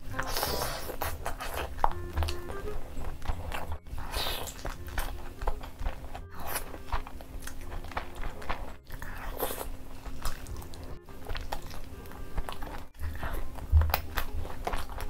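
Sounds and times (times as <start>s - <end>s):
wet chewing and mouth smacks: 0.0s - 15.0s.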